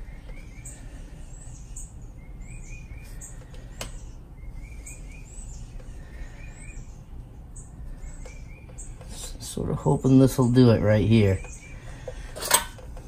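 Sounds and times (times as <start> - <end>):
low background rumble: 0.0 - 13.0
small birds chirping: 0.0 - 13.0.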